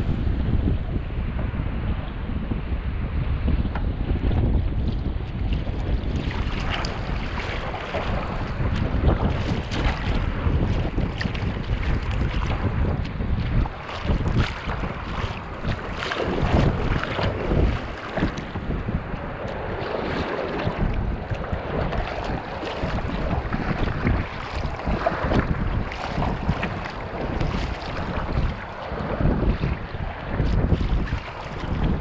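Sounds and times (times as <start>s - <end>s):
wind buffeting microphone: 0.0s - 32.0s
small waves slapping hull: 3.4s - 32.0s
paddle blades dipping in water: 4.9s - 32.0s.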